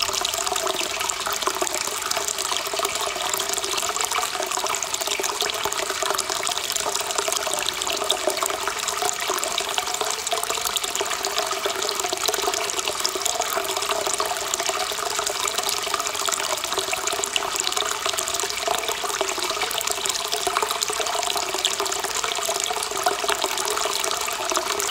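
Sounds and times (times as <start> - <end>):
water pouring and splashing into pool: 0.0 - 24.9.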